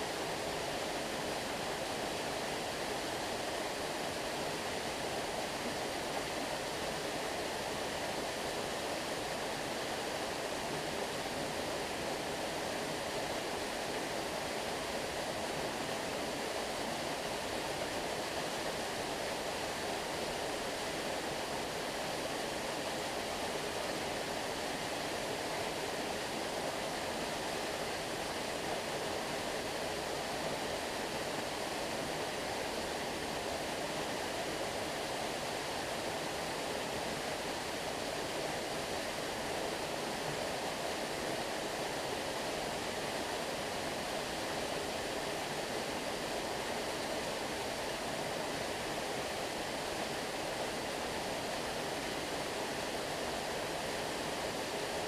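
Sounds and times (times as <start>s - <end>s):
stream water rushing and babbling: 0.0s - 55.0s.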